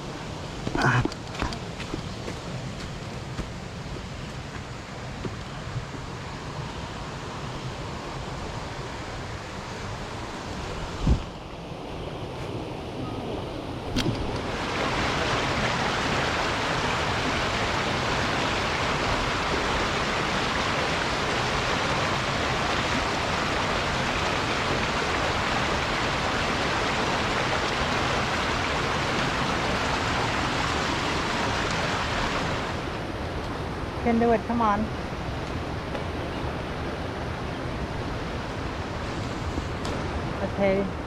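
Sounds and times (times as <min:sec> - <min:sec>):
stream water rushing: 0:00.0 - 0:41.0.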